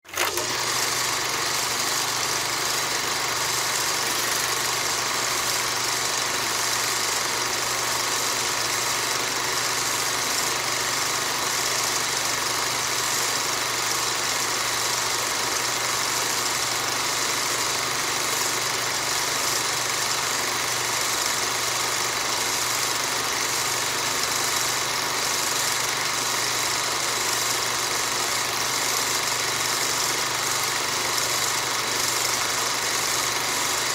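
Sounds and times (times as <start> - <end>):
film projector whirring: 0.0 - 33.9.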